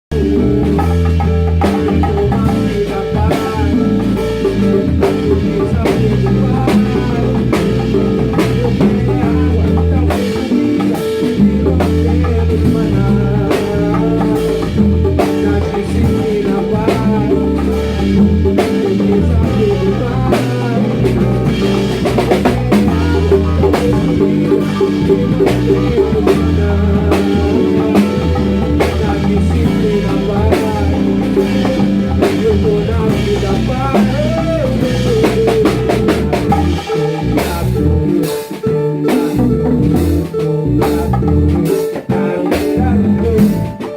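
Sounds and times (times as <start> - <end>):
bass line: 0.0 - 43.9
drum kit and percussion: 0.1 - 43.9.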